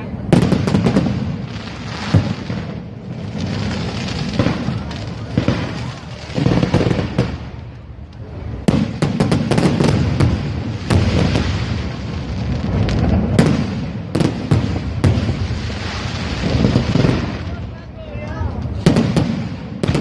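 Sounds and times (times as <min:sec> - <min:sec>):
fireworks crackle: 0:00.0 - 0:20.0
fireworks cracks and bangs: 0:00.0 - 0:20.0.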